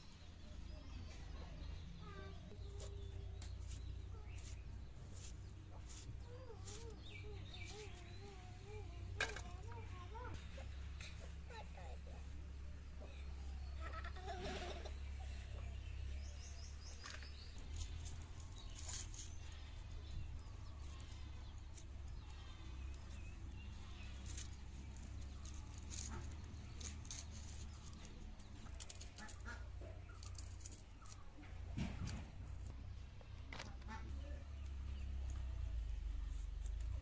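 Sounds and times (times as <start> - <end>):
birds chirping: 0.0 - 36.4.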